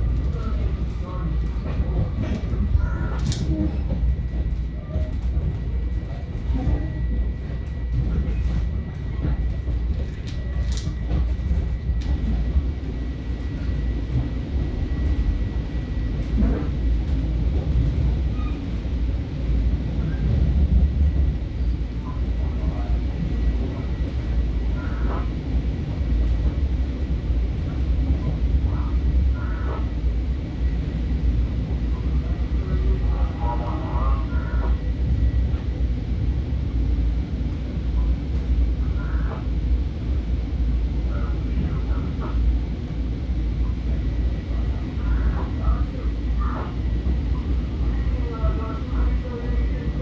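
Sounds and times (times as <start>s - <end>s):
train low rumble: 0.0s - 50.0s.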